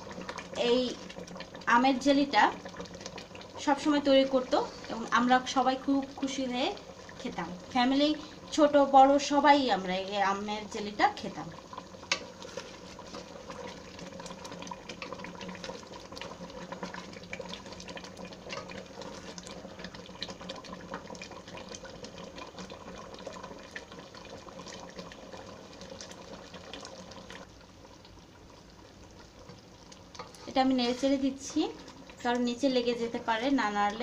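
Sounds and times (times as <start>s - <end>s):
syrup bubbling in a pan: 0.0s - 34.0s.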